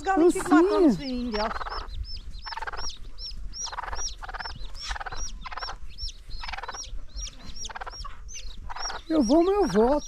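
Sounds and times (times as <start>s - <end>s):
chicks peeping: 0.0s - 10.0s
hen clucking: 0.0s - 10.0s.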